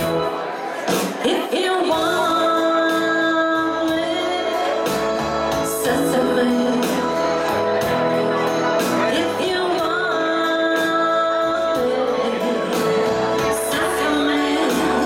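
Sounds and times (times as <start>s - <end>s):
pop song on electronic keyboard: 0.0s - 15.0s
woman singing into microphone: 1.2s - 15.0s.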